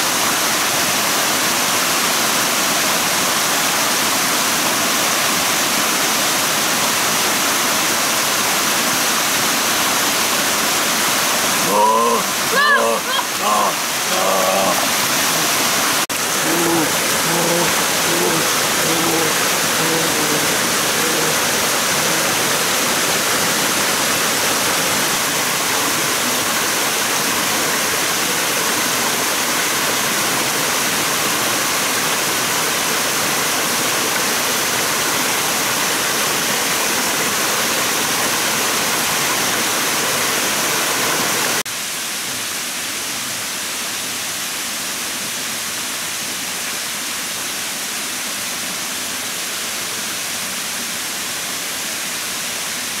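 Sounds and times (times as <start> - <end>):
waterfall rushing over rocks: 0.0 - 53.0.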